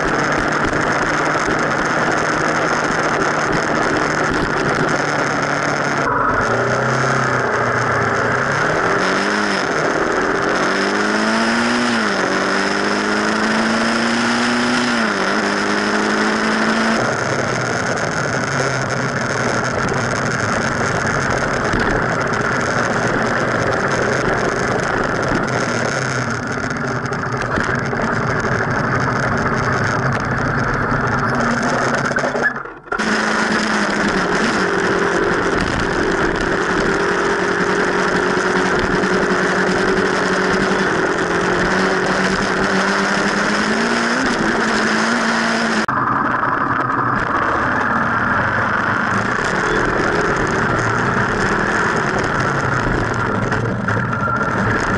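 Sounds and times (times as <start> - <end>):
motorcycle engine accelerating: 0.0 - 54.9
wind and road noise: 0.0 - 54.9.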